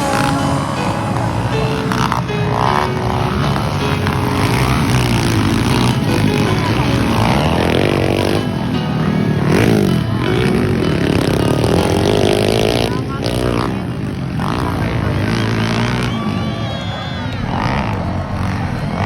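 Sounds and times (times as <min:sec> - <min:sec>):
motorcycle engines revving: 0:00.0 - 0:19.0
music playing: 0:00.0 - 0:19.0.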